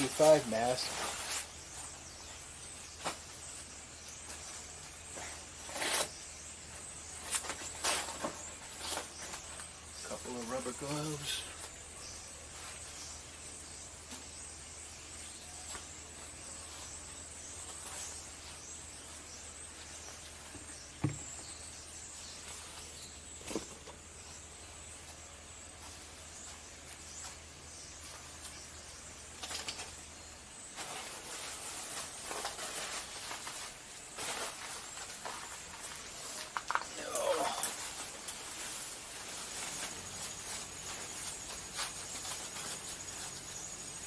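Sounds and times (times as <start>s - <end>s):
rustling and handling noises: 0.0s - 44.0s.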